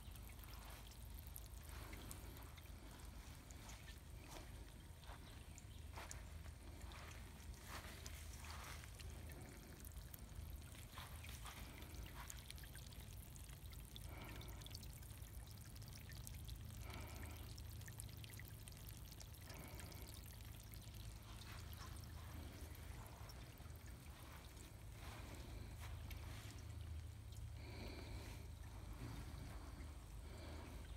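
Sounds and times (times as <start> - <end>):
fountain splashing onto pebbles: 0.0 - 30.7
low steady rumble: 0.0 - 30.9.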